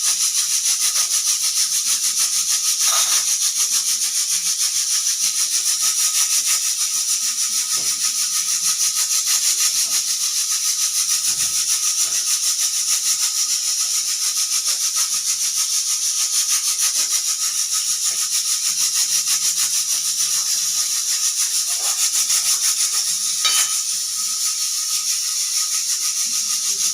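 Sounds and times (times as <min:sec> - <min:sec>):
pressure cooker whistle hissing: 0:00.0 - 0:26.9.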